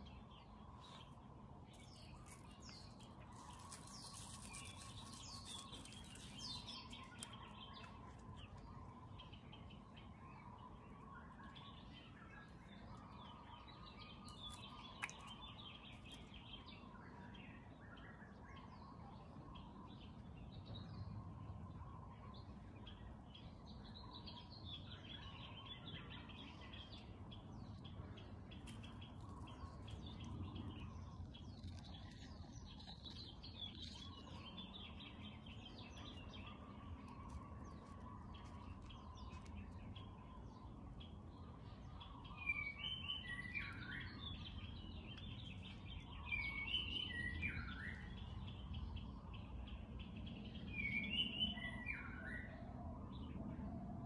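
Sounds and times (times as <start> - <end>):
songbirds chirping and singing: 0.0 - 53.8.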